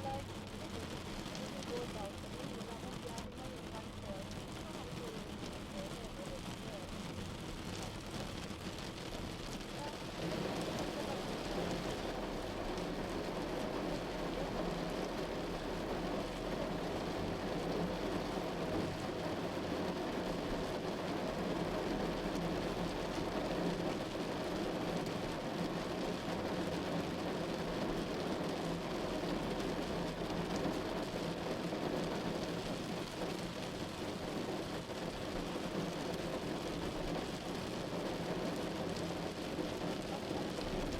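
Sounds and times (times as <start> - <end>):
heavy rain drumming on a car: 0.0 - 40.9.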